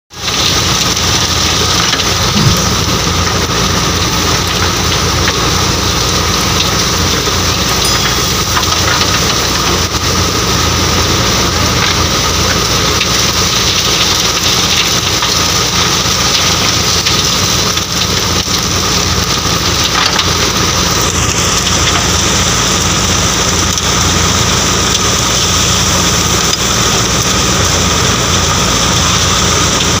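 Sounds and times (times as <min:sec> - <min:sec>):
threshing machine: 0:00.1 - 0:30.0
diesel engine running: 0:00.2 - 0:30.0.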